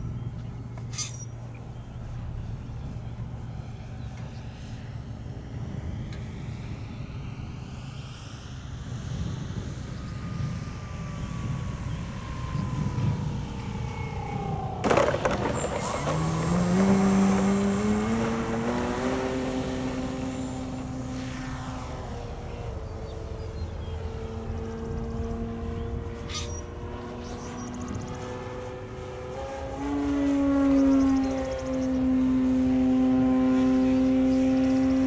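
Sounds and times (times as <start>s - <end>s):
electric motor and propeller whine: 0.0s - 35.0s
low wind rumble: 0.0s - 35.0s.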